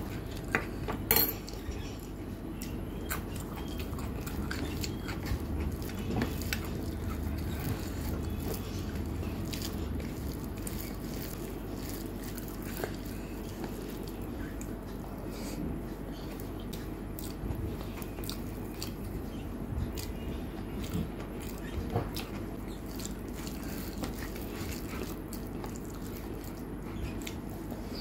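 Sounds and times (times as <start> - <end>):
low steady hum: 0.0 - 28.0
fingers squishing food: 1.5 - 15.3, 15.9 - 28.0.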